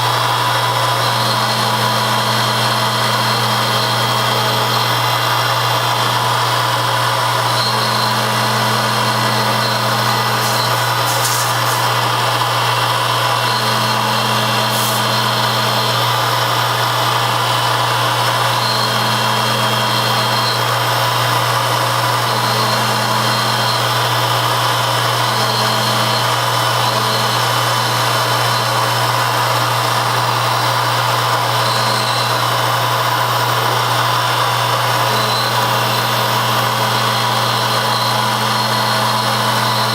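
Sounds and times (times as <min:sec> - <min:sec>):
machine tool humming: 0:00.0 - 0:39.9
second machine tone: 0:00.2 - 0:39.9.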